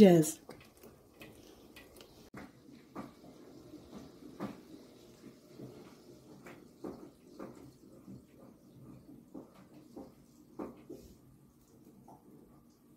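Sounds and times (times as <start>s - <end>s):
batter bubbling in a pot: 0.0s - 12.9s.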